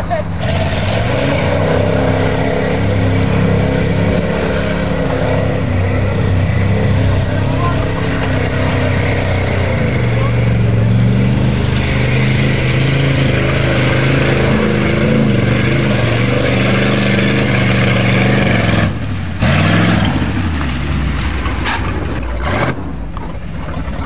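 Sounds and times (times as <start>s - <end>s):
engine revving: 0.0s - 23.0s
truck engines driving through mud: 0.0s - 24.0s.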